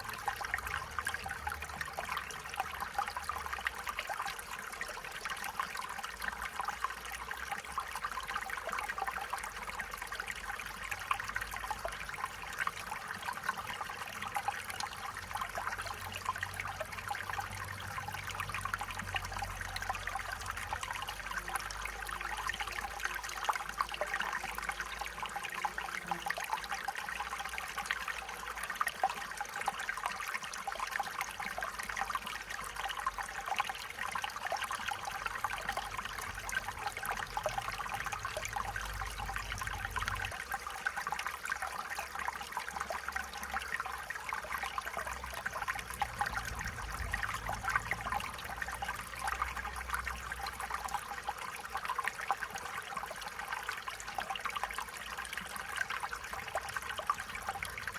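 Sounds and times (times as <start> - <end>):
stream trickling over stones: 0.0 - 57.9.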